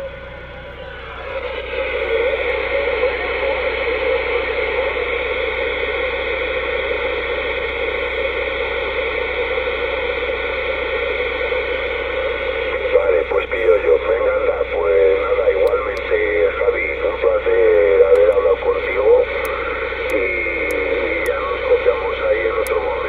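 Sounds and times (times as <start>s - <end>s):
faint radio whistles: 0.0s - 23.0s
radio static hiss: 0.0s - 23.0s.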